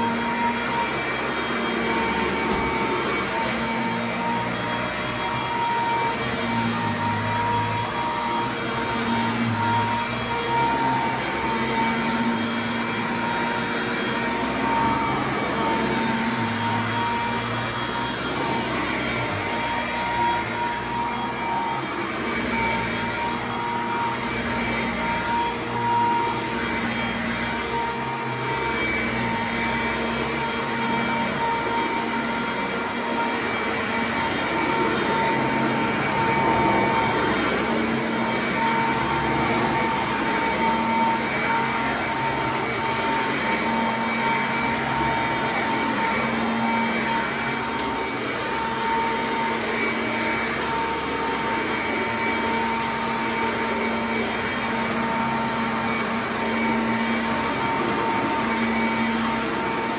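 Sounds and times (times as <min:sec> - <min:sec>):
upright vacuum motor whine: 0:00.0 - 0:59.9.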